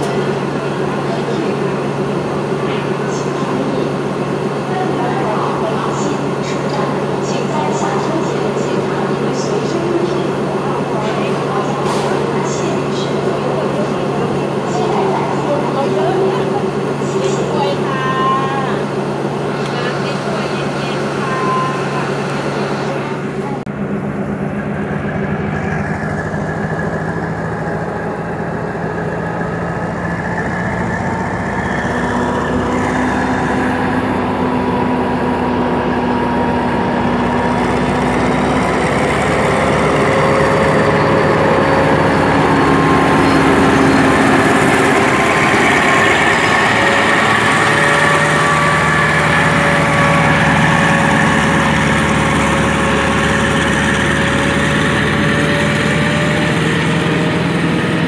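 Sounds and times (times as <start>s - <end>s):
diesel train engine hum: 0.0s - 58.0s.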